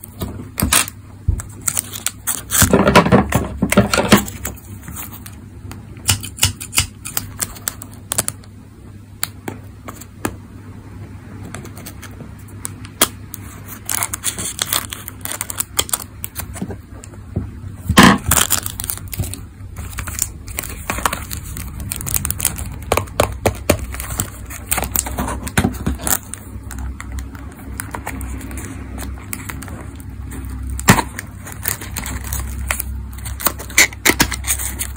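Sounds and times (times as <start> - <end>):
plastic tape crinkling and tearing: 0.0 - 5.4, 6.4 - 8.5, 11.6 - 17.1, 17.9 - 34.9.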